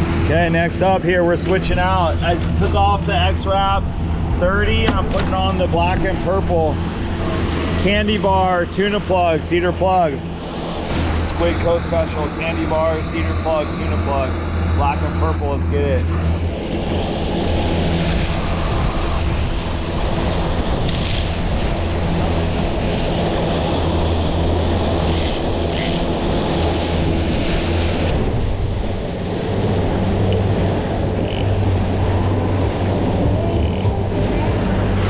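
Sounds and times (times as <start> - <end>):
boat engine humming: 0.0 - 35.0
water rushing along hull: 0.0 - 35.0
wind buffeting microphone: 0.0 - 35.0.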